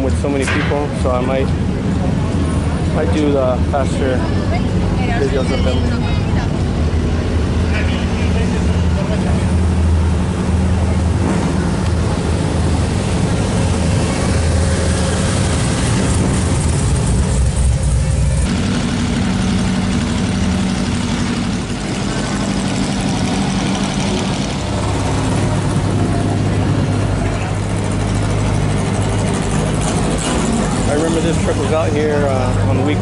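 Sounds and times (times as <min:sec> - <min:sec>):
car engines in slow traffic: 0:00.0 - 0:33.0.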